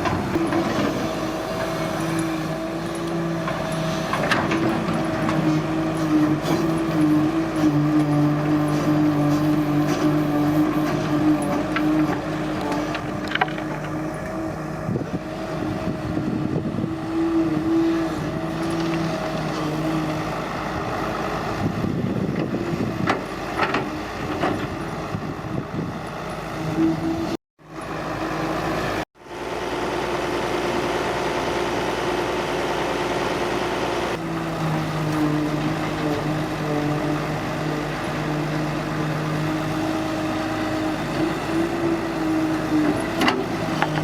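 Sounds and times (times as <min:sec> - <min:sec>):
excavator diesel engine under load: 0:00.0 - 0:44.0.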